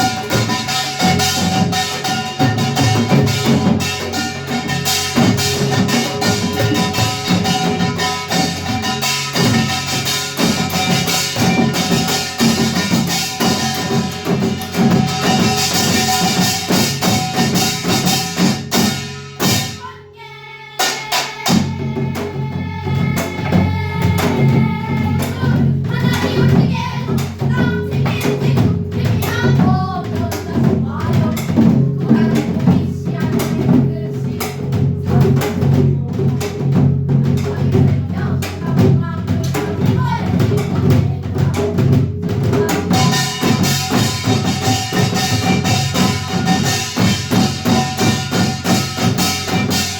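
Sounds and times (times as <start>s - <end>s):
hourglass drum: 0.0s - 20.0s, 20.8s - 49.9s
barrel drum: 0.0s - 20.1s, 20.8s - 49.9s.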